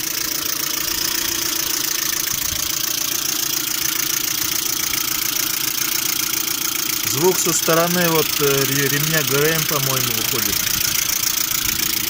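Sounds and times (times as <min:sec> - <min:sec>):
car engine idling: 0:00.0 - 0:12.0
steady engine knocking: 0:00.0 - 0:12.0.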